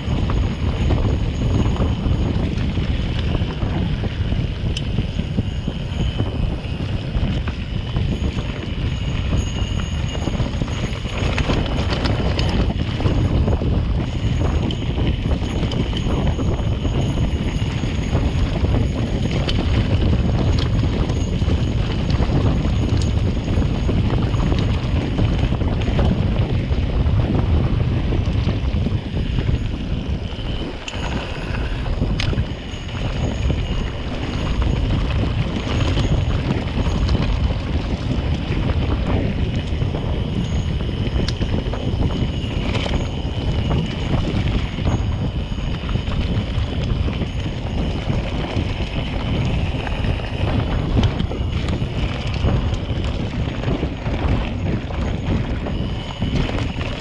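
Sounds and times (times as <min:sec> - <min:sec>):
bicycle tyres rolling on gravel: 0:00.0 - 0:57.0
wind buffeting microphone: 0:00.0 - 0:57.0.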